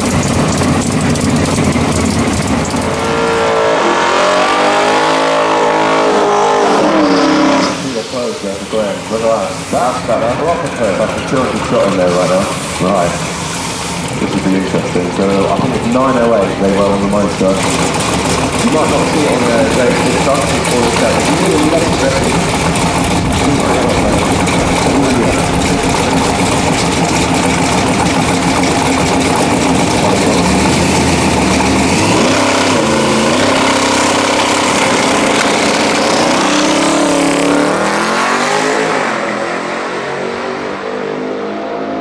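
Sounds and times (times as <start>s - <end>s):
race car engine revving and accelerating: 0.0s - 42.0s.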